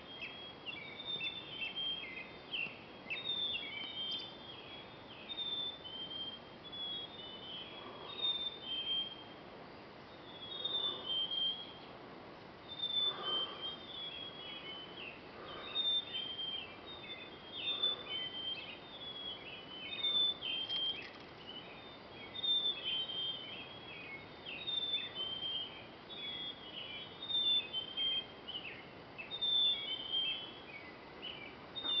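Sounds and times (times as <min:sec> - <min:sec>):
faint steady hiss: 0:00.0 - 0:32.0
songbird singing: 0:00.0 - 0:32.0.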